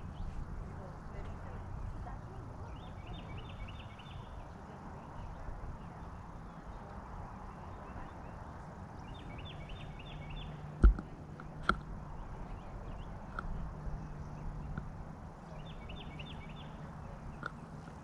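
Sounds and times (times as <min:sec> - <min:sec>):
bird chirping: 0:00.0 - 0:18.0
outdoor background noise: 0:00.0 - 0:18.0.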